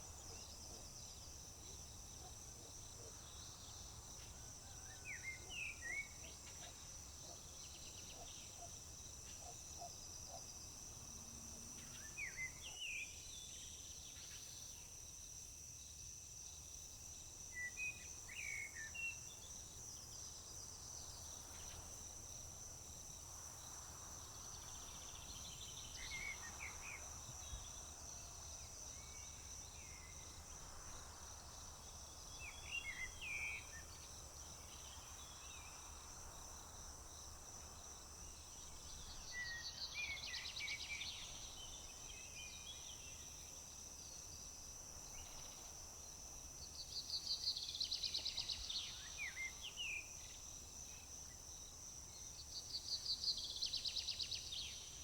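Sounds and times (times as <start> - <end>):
crickets chorus: 0.0 - 55.0.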